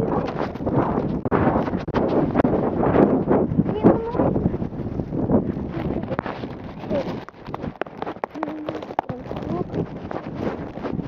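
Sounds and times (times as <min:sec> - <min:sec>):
gusty wind buffeting microphone: 0:00.0 - 0:11.0.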